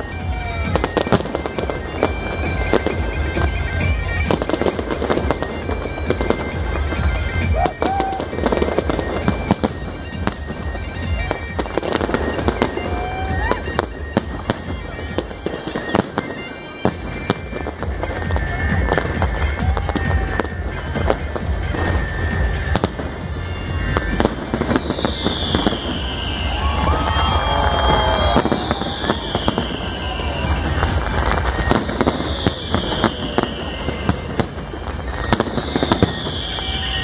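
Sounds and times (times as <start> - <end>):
bagpipe music: 0.0 - 37.0
fireworks bangs and crackles: 0.0 - 37.0.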